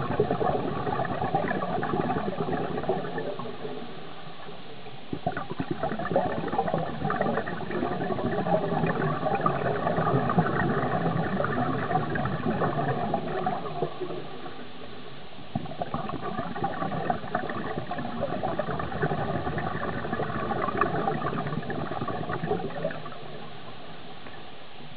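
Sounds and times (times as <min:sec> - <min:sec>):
scuba regulator bubbles gurgling: 0:00.0 - 0:24.6.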